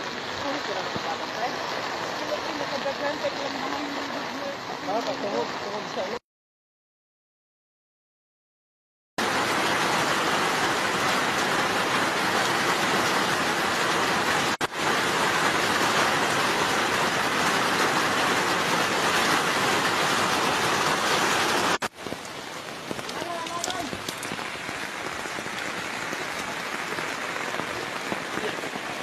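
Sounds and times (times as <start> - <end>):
heavy rain falling: 0.0 - 6.2, 9.2 - 29.0.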